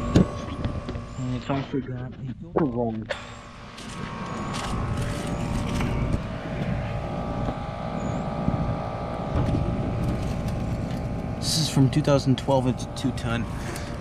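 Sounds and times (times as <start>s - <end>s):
steady machinery hum: 0.0s - 14.0s.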